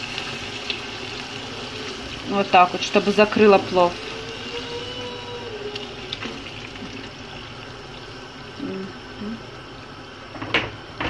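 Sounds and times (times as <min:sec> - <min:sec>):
food simmering in a pan: 0:00.0 - 0:11.0.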